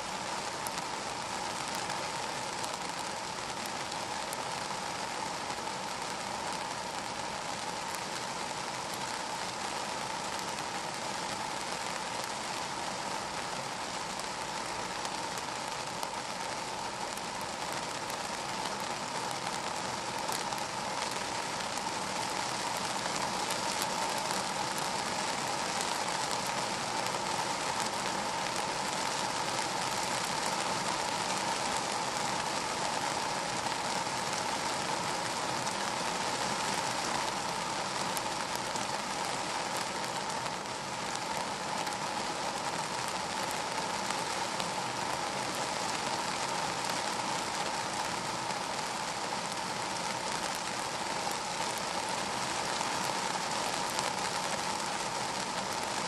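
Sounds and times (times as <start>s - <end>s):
rain on car roof: 0.0s - 56.0s.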